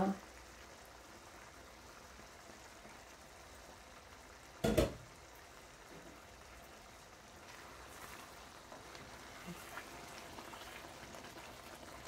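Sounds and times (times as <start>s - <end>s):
curry bubbling: 0.0s - 12.0s.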